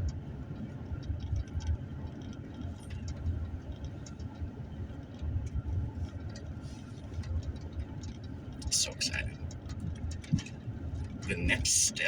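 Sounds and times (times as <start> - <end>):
faint clicks and rattles: 0.0 - 12.0
vehicle engine rumble: 0.0 - 12.0.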